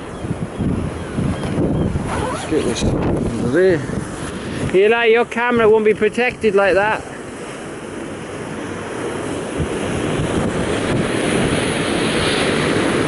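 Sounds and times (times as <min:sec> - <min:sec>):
wind buffeting microphone: 0:00.0 - 0:13.0
storm waves crashing: 0:00.3 - 0:13.0.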